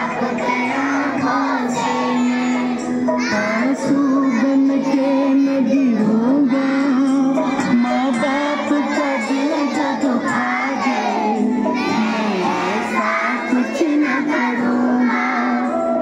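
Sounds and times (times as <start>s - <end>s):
children singing a prayer: 0.0s - 16.0s.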